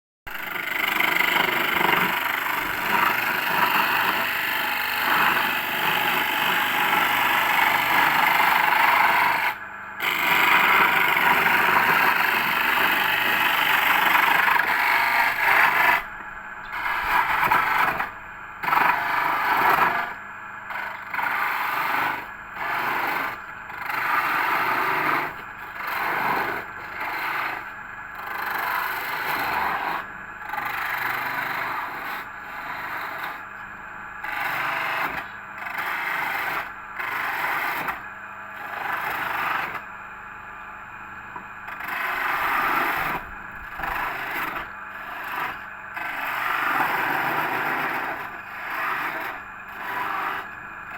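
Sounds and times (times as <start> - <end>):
lathe tool scraping workpiece: 0.3 - 40.0, 41.4 - 50.9.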